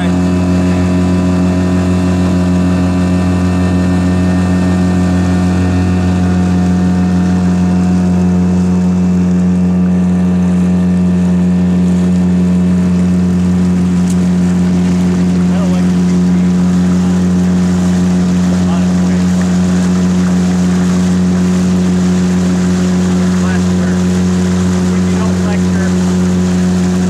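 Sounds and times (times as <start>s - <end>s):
outboard motor droning: 0.0s - 27.0s.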